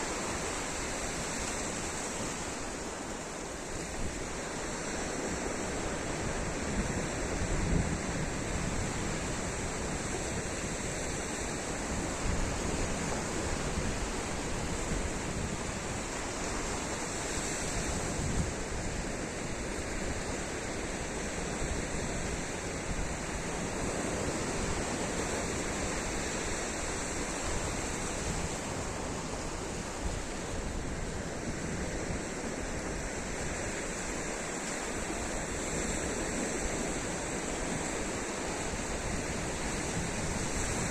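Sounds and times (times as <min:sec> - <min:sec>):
sea waves washing onto beach: 0:00.0 - 0:40.9
wind rumbling on microphone: 0:00.0 - 0:40.9.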